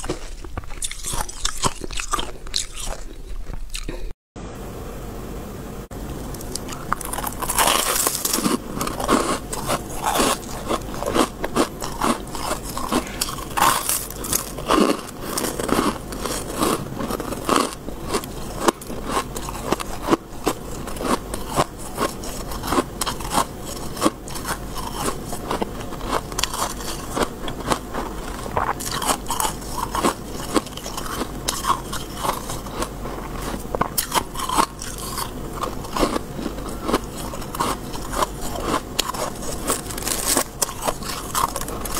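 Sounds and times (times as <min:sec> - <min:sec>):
person crunching frost: 0:00.0 - 0:04.1, 0:06.3 - 0:41.9.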